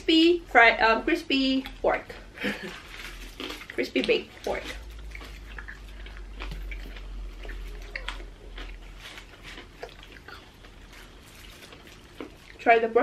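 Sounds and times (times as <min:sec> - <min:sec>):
people chewing: 0:01.6 - 0:12.9.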